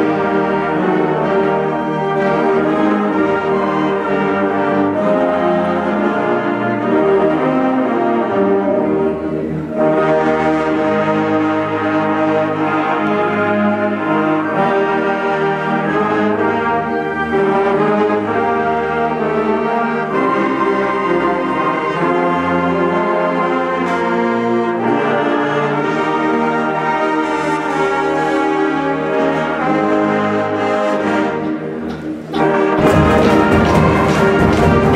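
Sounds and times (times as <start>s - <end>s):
orchestral music with brass chords: 0.0s - 34.9s.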